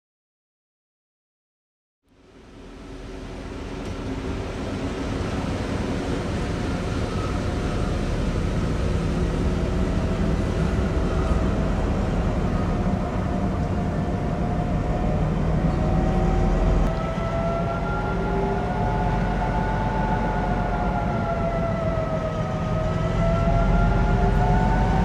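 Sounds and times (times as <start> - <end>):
diesel locomotive engine rumbling: 2.2 - 25.0.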